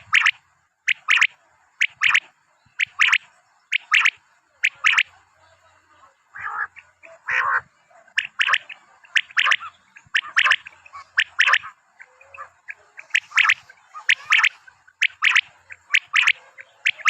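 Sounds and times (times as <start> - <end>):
rough scratchy bird calls: 0.0 - 5.2, 6.0 - 17.0
francolin calling: 0.0 - 17.0.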